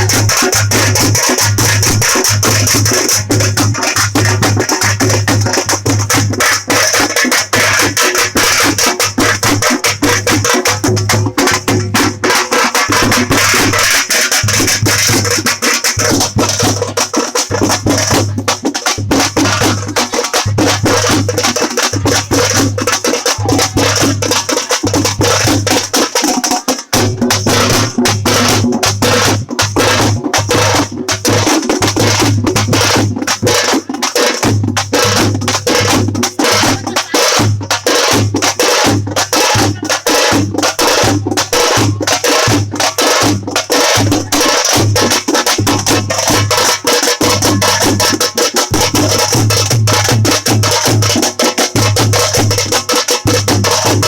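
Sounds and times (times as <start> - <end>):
frame drums beaten with sticks: 0.0 - 54.0.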